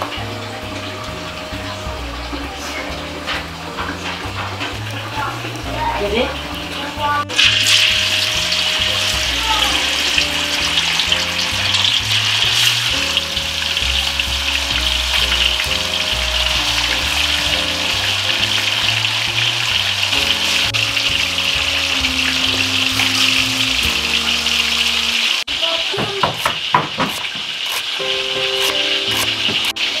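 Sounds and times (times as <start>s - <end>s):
background music: 0.0s - 25.5s, 28.0s - 30.0s
hot oil sizzling in a wok: 0.0s - 25.7s.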